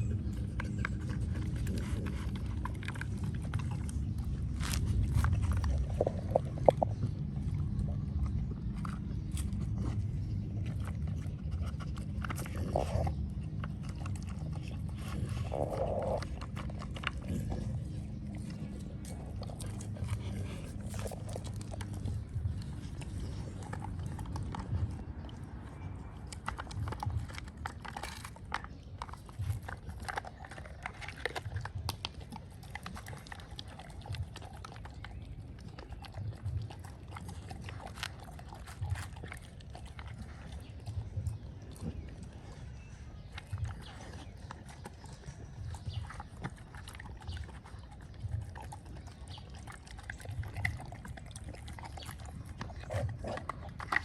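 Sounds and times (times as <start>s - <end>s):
dog chewing treats: 0.0s - 54.0s.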